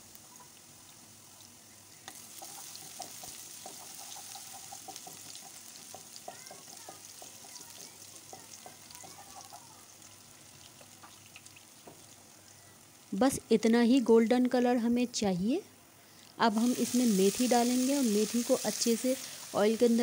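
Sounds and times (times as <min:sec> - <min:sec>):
garlic sizzling in oil: 0:00.0 - 0:14.7, 0:16.3 - 0:20.0.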